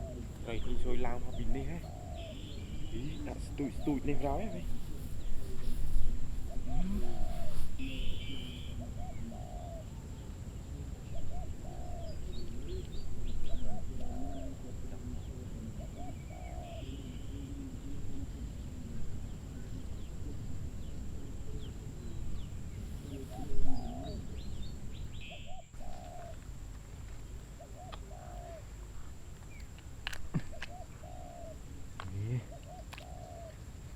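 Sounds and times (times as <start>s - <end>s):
dove cooing: 0.0s - 33.9s
small birds chirping: 0.0s - 33.9s.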